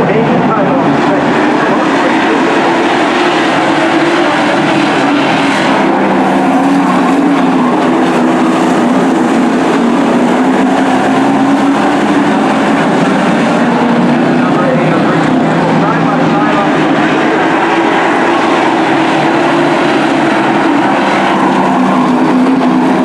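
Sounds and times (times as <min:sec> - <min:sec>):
race truck engines droning: 0:00.0 - 0:23.0.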